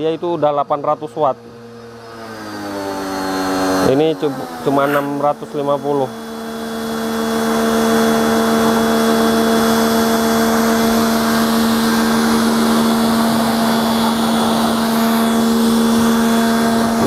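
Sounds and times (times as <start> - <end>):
pressure washer pump humming: 0.0 - 17.0.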